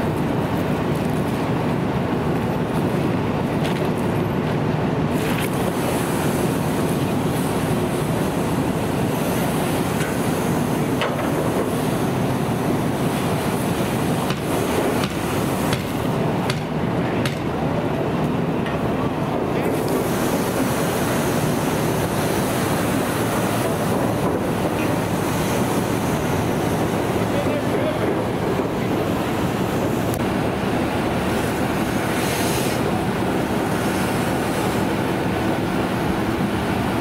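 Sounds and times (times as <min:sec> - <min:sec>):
fire engine pump rushing: 0:00.0 - 0:37.0.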